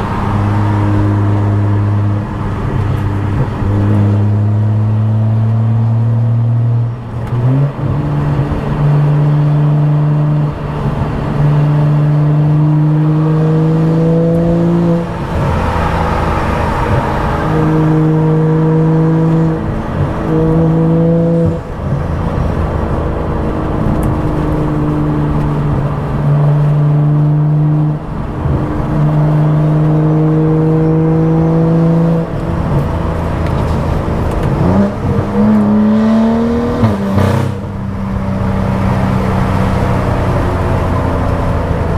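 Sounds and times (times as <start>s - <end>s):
car engine with loud exhaust: 0.0s - 41.9s.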